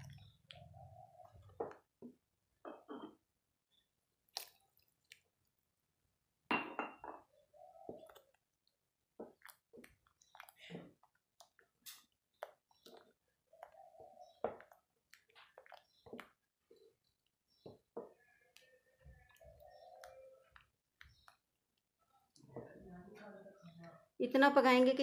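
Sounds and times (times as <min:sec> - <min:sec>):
wet squelches of stirring: 0:00.0 - 0:06.5, 0:07.2 - 0:24.9.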